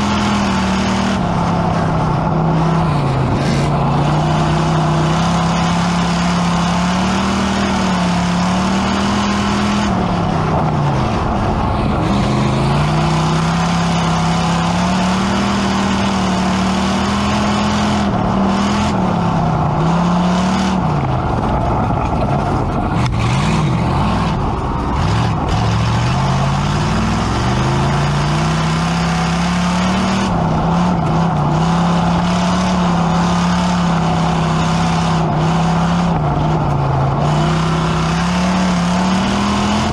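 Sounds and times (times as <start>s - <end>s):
constant rushing noise: 0.0s - 39.9s
race car engine: 0.0s - 39.9s.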